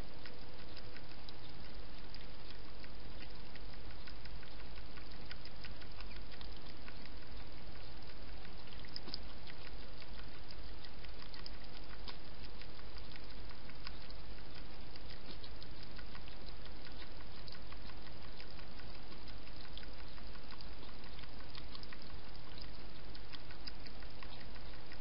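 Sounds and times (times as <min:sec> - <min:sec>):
hedgehog clicking while feeding: 0:00.0 - 0:25.0
low hum: 0:00.0 - 0:25.0.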